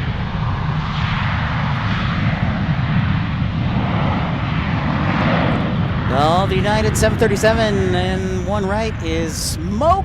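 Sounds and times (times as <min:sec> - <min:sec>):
jet engines roaring on takeoff: 0:00.0 - 0:10.0.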